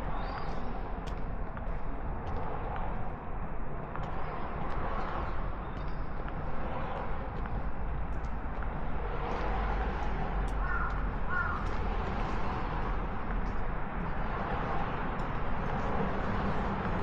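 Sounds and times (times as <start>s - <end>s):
footsteps on pavement: 0.0s - 17.0s
outdoor street hum: 0.0s - 17.0s.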